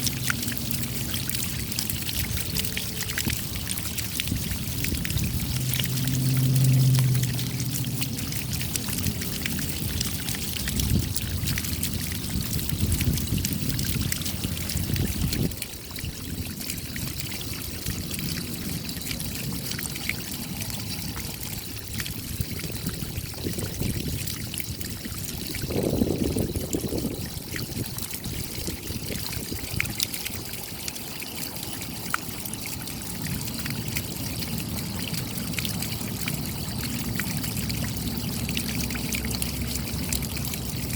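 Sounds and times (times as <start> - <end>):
water pouring and trickling: 0.0 - 40.9.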